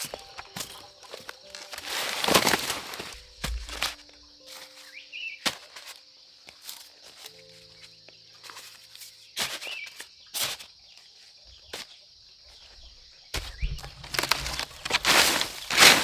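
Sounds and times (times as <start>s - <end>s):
dry corn leaves rustling: 0.0s - 16.0s.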